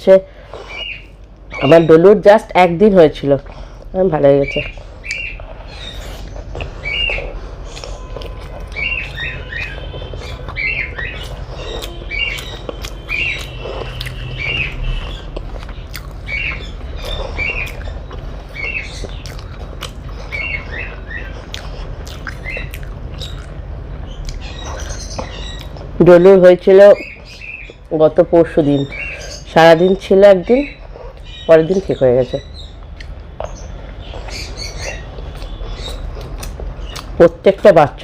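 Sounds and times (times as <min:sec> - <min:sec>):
birds chirping: 0:00.0 - 0:38.0
eating clicks and mouth sounds: 0:00.4 - 0:28.0, 0:28.6 - 0:38.0.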